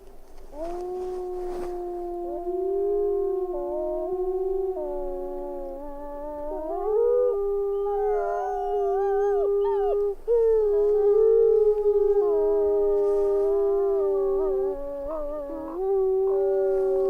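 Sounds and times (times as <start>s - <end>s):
wolves howling: 0.5s - 17.0s.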